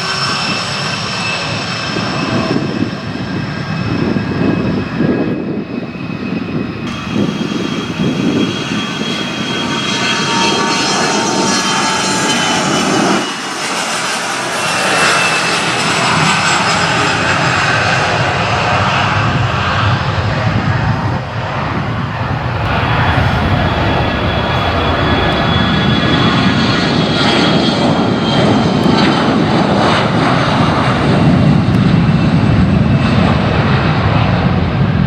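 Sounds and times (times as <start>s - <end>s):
jet engines roaring: 0.0s - 35.0s
high engine whine: 5.8s - 14.2s, 15.3s - 35.0s.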